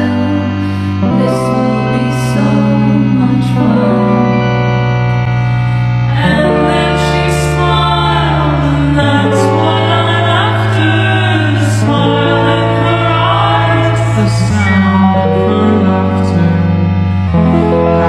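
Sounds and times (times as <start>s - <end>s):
person singing: 0.0s - 18.0s
sustained chords: 0.0s - 18.0s.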